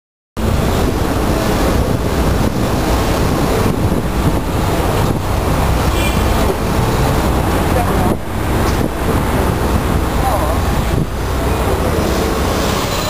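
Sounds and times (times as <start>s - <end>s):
excavator engine and hydraulics: 0.4s - 13.0s.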